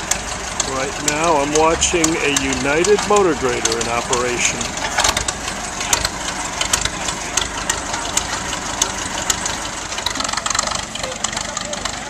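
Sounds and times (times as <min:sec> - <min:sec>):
motor grader engine running: 0:00.0 - 0:12.0.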